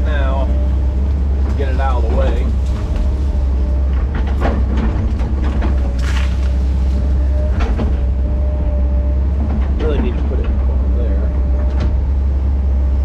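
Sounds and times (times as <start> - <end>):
bulldozer engine under load: 0.0 - 13.0
track clatter: 0.0 - 13.0.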